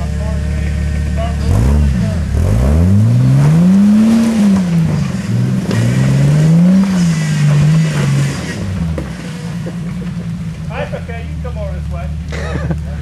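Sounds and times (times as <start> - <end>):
engine revving: 0.0 - 12.4.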